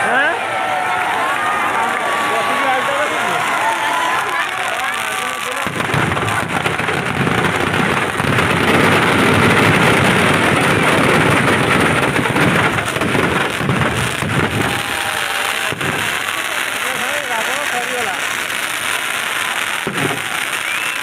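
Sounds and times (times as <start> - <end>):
firecrackers crackling and rumbling: 0.7 - 21.0.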